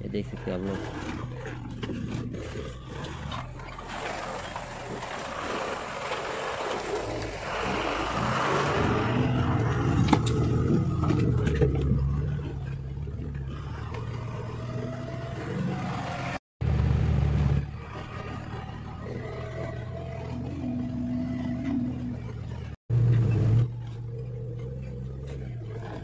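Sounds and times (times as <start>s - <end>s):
diesel truck engine at low speed: 0.0s - 26.0s.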